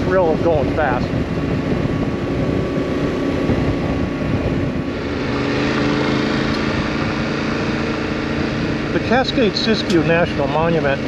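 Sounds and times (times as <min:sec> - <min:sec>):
motorcycle engine cruising: 0:00.0 - 0:11.0
wind and road rumble: 0:00.0 - 0:11.0.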